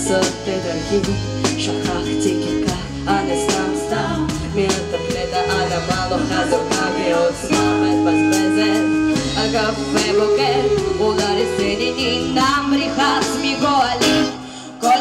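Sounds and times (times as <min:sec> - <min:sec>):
bass line: 0:00.0 - 0:15.0
guitar: 0:00.0 - 0:15.0
woman singing: 0:00.0 - 0:15.0.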